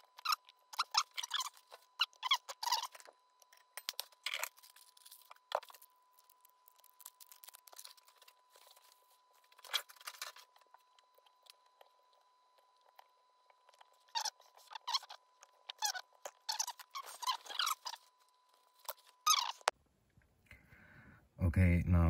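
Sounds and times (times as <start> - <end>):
crinkling handling noise: 0.0 - 19.7.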